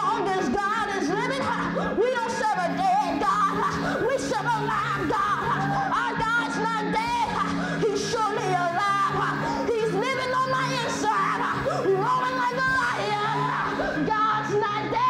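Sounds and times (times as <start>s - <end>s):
boy singing into microphone: 0.0s - 15.0s
church music with low chords: 0.0s - 15.0s.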